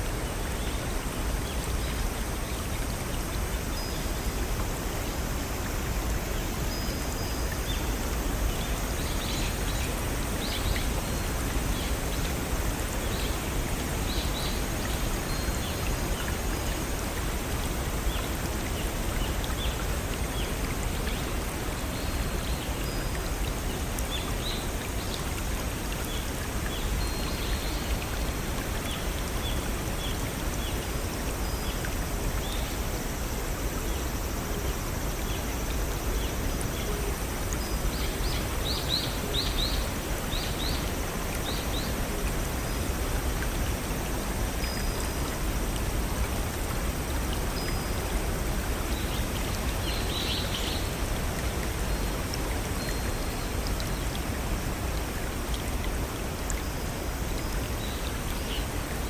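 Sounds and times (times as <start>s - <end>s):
brook and small waterfall: 0.0s - 59.0s.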